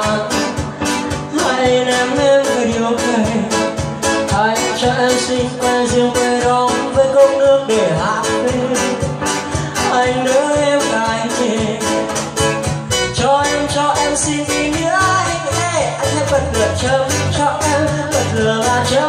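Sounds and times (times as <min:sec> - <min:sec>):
man singing through microphone: 0:00.0 - 0:19.0
strummed acoustic guitar: 0:00.0 - 0:19.0.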